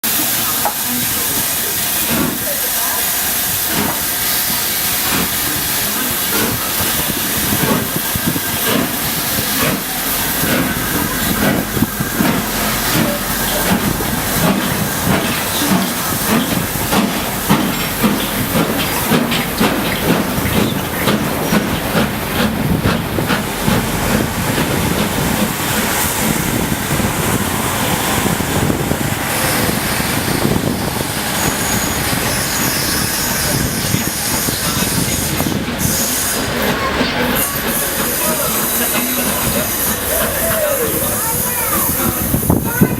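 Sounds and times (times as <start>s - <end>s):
steam hissing: 0.0s - 42.9s
steam locomotive exhaust chuffs: 0.0s - 42.9s.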